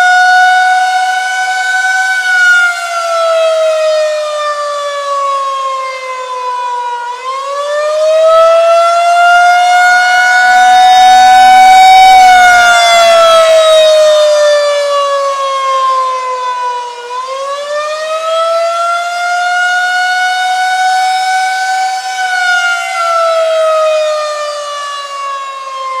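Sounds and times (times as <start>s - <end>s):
tornado siren wailing: 0.0s - 26.0s.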